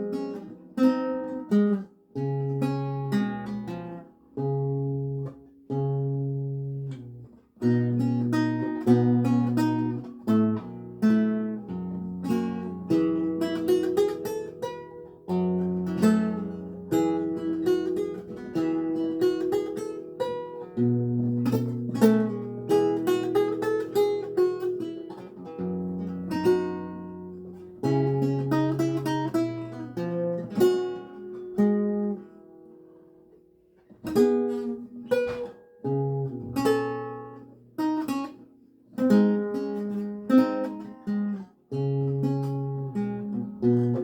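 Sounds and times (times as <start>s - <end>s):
solo lute playing: 0.0s - 44.0s.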